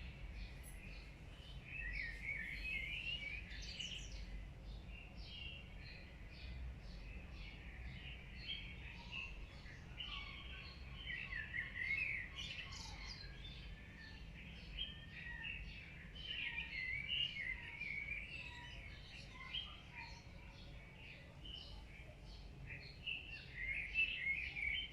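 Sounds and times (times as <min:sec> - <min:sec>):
birds chirping and singing: 0:00.0 - 0:24.9.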